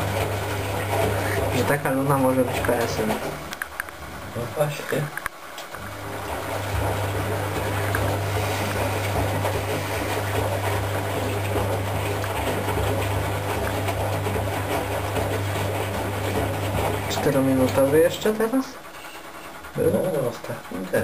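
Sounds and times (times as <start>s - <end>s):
washing machine motor hum: 0.0s - 21.0s
wet laundry rushing in drum: 0.0s - 21.0s.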